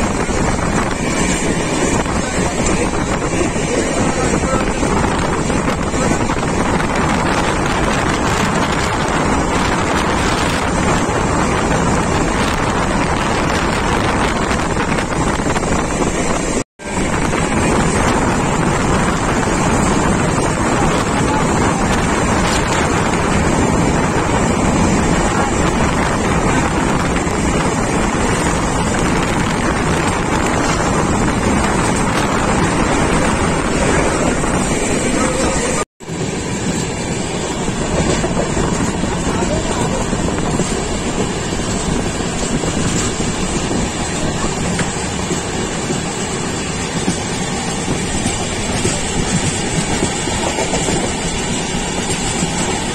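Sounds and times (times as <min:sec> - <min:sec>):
train coach running noise: 0:00.0 - 0:52.9
wind rushing over microphone: 0:00.0 - 0:52.9.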